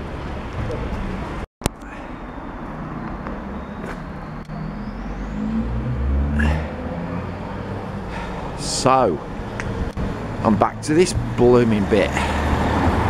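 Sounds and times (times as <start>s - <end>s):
vehicle engine passing: 0.5s - 13.0s.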